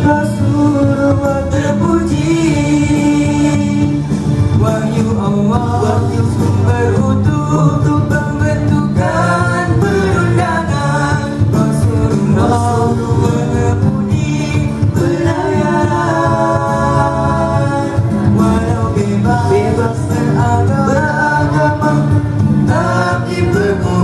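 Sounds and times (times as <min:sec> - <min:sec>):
male voices singing in harmony: 0:00.0 - 0:24.0.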